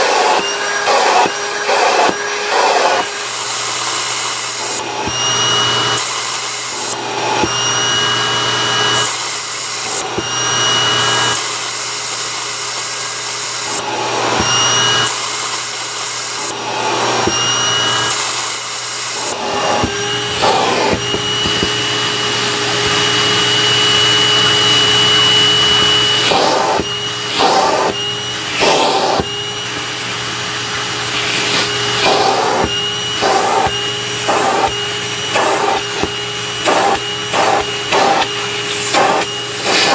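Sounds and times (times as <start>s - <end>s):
vacuum cleaner motor whine: 0.0s - 39.9s
vacuum nozzle hiss: 0.0s - 39.9s.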